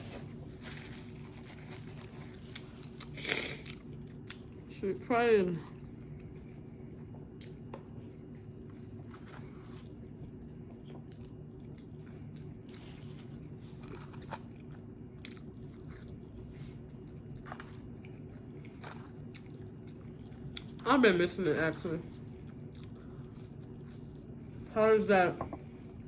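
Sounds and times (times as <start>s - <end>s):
steady low hum: 0.0s - 26.0s
chewing and biting food: 0.5s - 4.7s, 5.6s - 20.9s, 21.7s - 24.5s.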